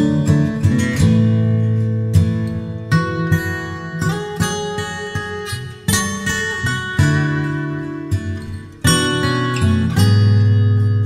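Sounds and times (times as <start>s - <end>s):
soft acoustic guitar chords: 0.0s - 11.0s.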